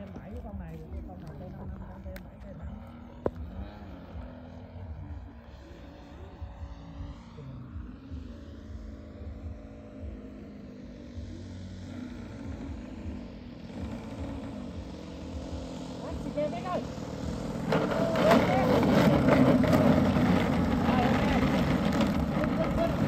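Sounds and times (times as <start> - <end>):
model plane engine droning: 0.0 - 23.0.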